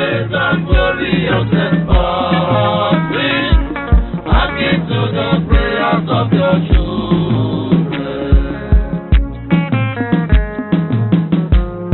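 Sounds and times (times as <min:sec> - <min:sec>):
low drum beat: 0:00.0 - 0:11.9
plucked string notes: 0:00.0 - 0:11.9.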